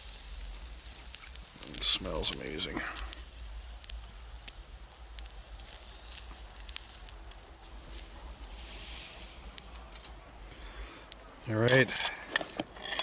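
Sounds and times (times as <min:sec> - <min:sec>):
campfire crackling: 0:00.0 - 0:13.0
sharp pops of fire: 0:00.0 - 0:13.0.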